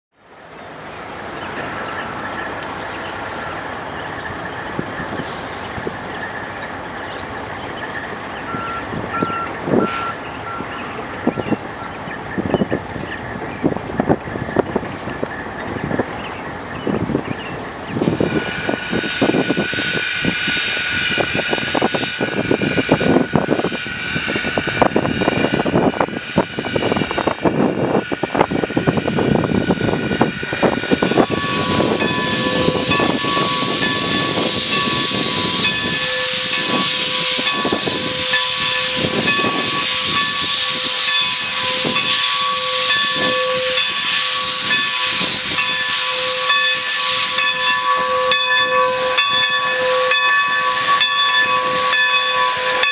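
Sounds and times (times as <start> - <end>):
steam locomotive hissing: 0.7 - 52.9.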